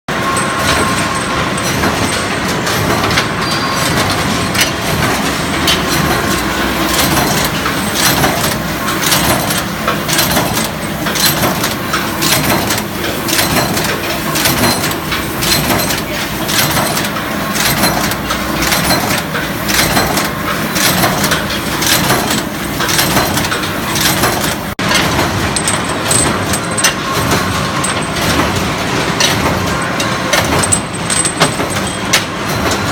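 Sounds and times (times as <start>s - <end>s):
forging machine knocking din: 0.2s - 32.9s.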